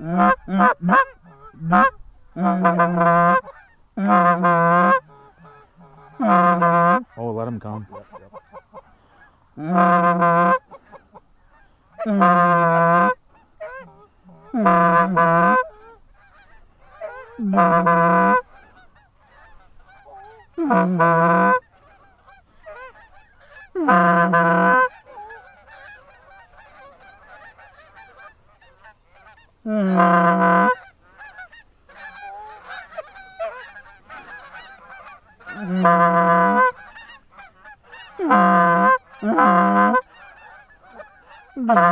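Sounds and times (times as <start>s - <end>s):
faint wavering goose calls: 0.0s - 41.9s
goose call honking: 0.0s - 41.9s.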